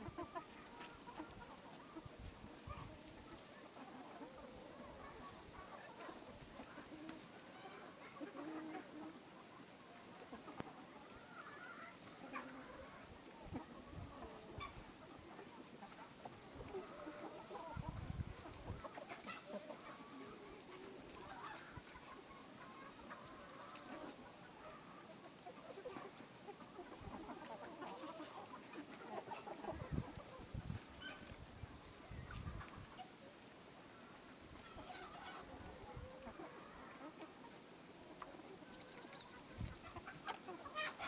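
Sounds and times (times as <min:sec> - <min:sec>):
hens clucking: 0:00.0 - 0:41.0.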